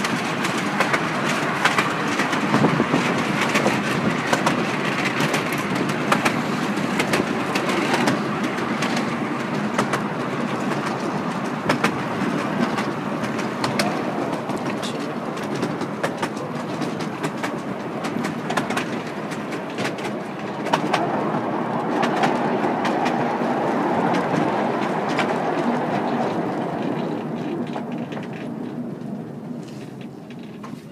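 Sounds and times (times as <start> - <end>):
miniature train rumbling: 0.0 - 30.9
wheels clicking over rail joints: 0.0 - 30.9.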